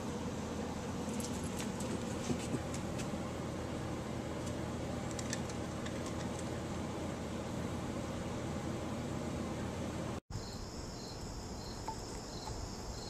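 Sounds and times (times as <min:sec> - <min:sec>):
room fan whirring: 0:00.0 - 0:13.0.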